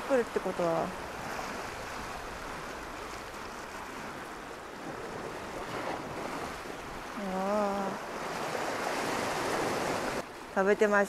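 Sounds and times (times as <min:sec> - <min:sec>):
surf washing against rocks: 0:00.0 - 0:11.0.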